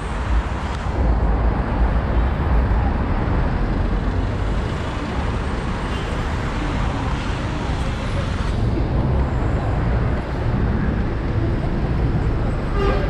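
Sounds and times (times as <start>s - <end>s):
rumble of passing cars and buses: 0.0s - 13.0s.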